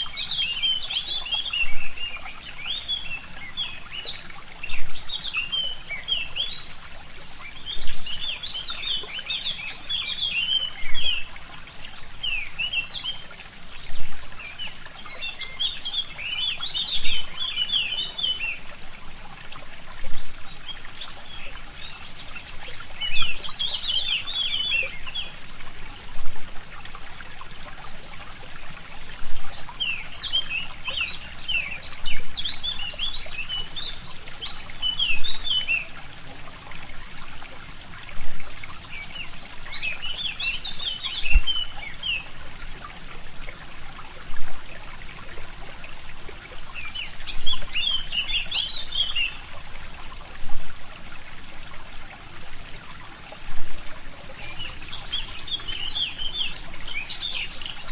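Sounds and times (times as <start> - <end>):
small birds twittering: 0.0 - 43.0, 44.6 - 50.5, 52.0 - 57.9
stream trickling: 0.0 - 57.9.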